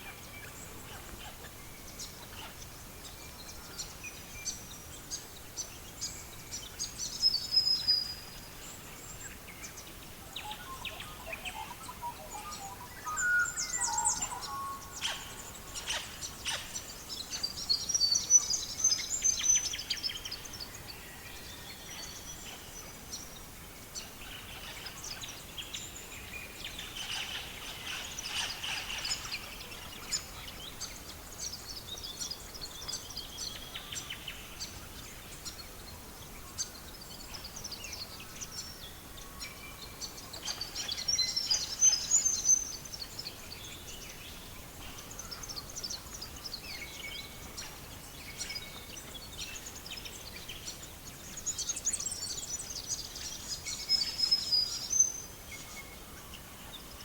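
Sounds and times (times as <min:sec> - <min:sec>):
faint hiss: 0:00.0 - 0:57.0
songbirds chirping and trilling: 0:00.0 - 0:57.0.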